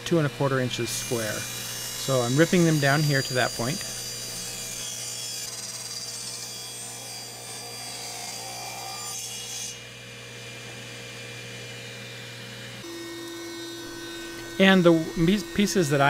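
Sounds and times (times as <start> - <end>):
table saw cutting wood: 0.0 - 16.0.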